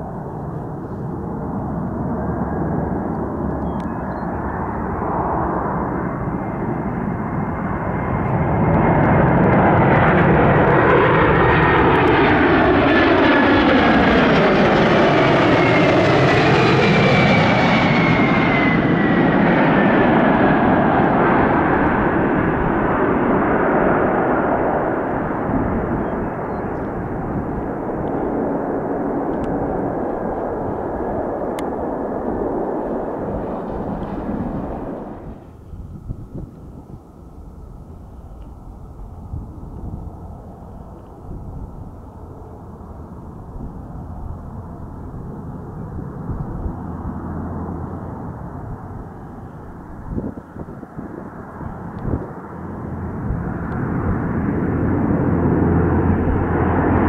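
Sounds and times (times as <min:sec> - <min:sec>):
large aircraft flying past: 0:00.0 - 0:57.0.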